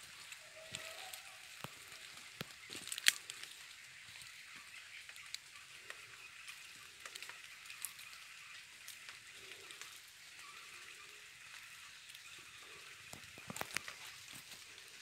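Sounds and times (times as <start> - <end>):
footsteps on dry leaves: 0.0 - 9.7, 11.6 - 15.0.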